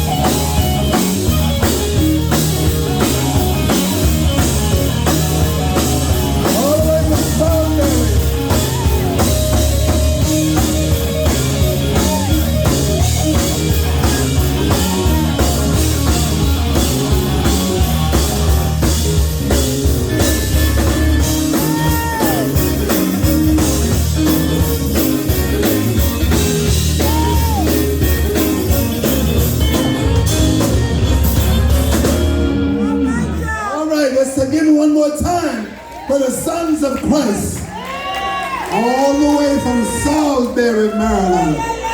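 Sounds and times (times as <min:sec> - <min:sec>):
drum kit beat: 0:00.0 - 0:33.6
sliding guitar or keyboard notes: 0:00.0 - 0:34.0
bass guitar: 0:00.0 - 0:34.5.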